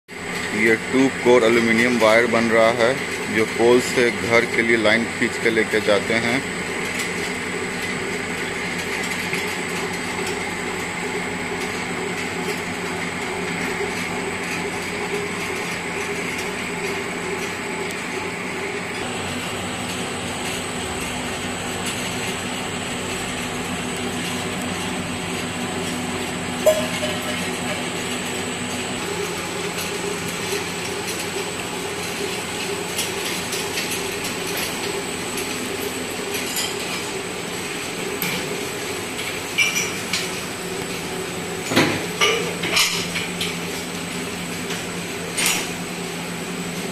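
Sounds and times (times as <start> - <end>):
machine drone with hum tones: 0.1 - 46.9.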